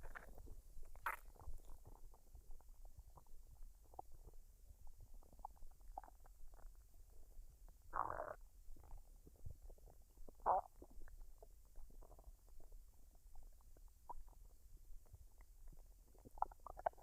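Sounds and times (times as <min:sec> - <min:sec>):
stomach gurgling: 0:00.0 - 0:17.0.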